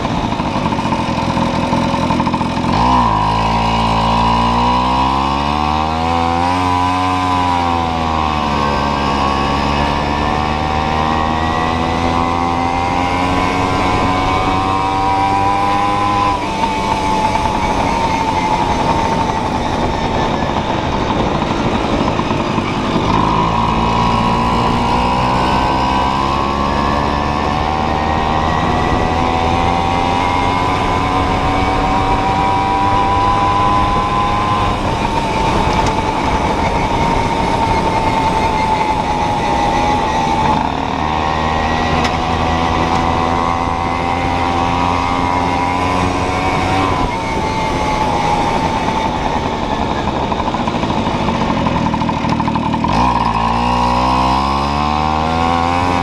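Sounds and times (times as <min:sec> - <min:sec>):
moped engine accelerating: 0:00.0 - 0:56.0
rushing wind noise: 0:00.0 - 0:56.0.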